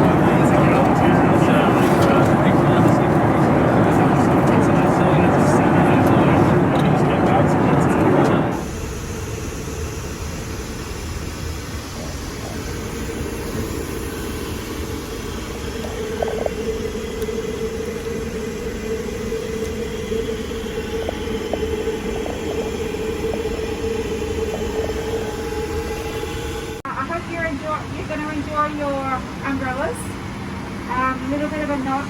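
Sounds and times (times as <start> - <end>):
airliner cabin engine rumble: 0.0 - 32.0
steady hum: 0.0 - 32.0.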